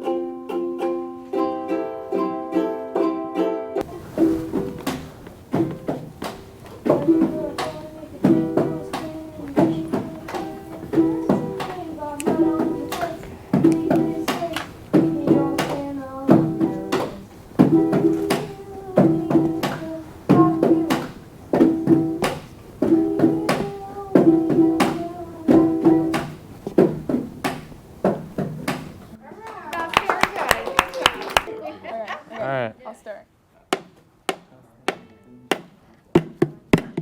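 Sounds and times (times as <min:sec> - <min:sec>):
ukuleles strumming chords: 0:00.0 - 0:29.8.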